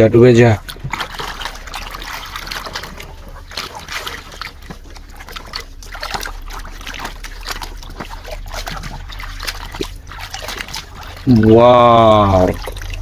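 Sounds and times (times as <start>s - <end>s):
water dripping: 0.0s - 13.0s
water splashing in tub: 0.0s - 13.0s.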